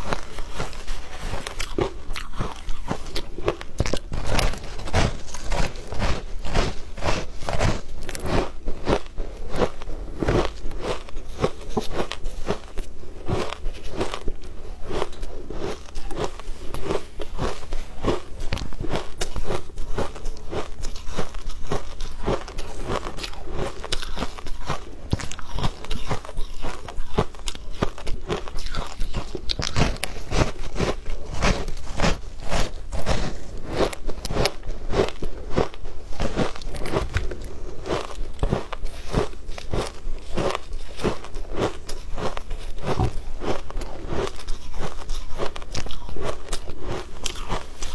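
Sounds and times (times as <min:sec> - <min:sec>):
person chewing crunchy ice: 0:00.0 - 0:47.9.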